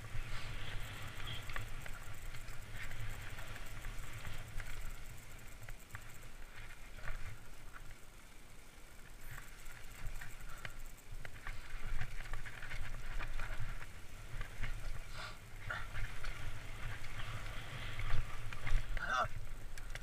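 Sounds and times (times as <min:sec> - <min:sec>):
bike clicks and rattles: 0:00.0 - 0:20.0
bike tyres crunching over dirt: 0:00.0 - 0:20.0
low steady rumble: 0:00.0 - 0:20.0.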